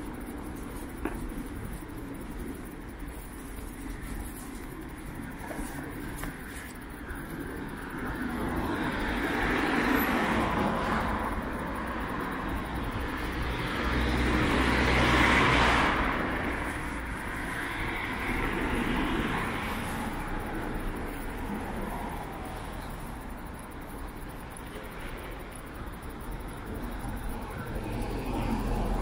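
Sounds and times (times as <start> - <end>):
cars passing: 0.0 - 29.0.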